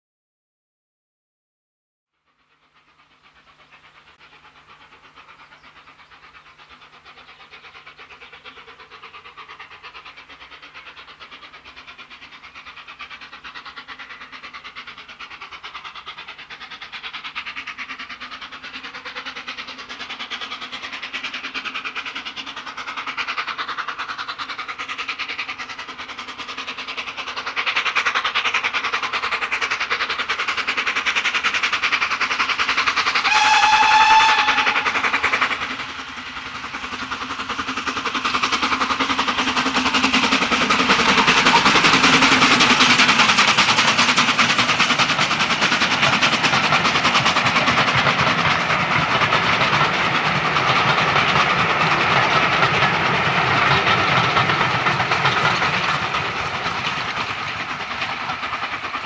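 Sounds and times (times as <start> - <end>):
steam locomotive exhaust beating: 2.2 - 59.0.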